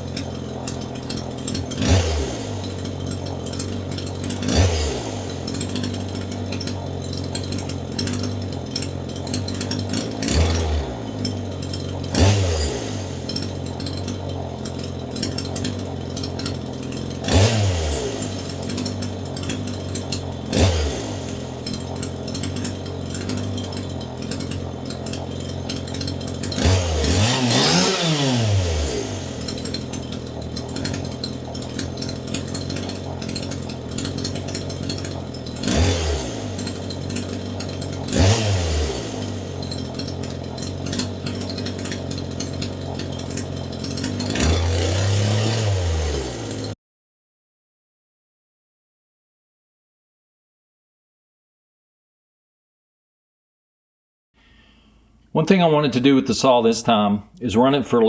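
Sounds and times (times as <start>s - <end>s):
chainsaw idling and revving: 0.0s - 46.8s, 54.4s - 58.0s.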